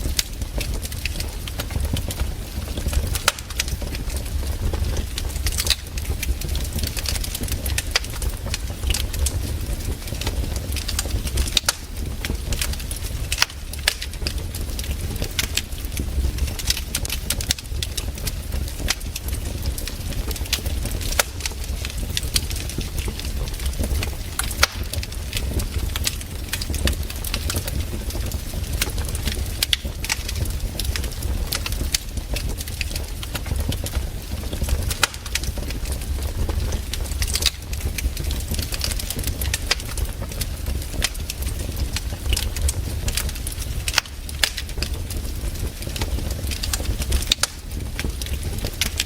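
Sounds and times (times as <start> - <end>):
campfire crackling and popping: 0.0 - 49.0
low fire rumble: 0.0 - 49.0.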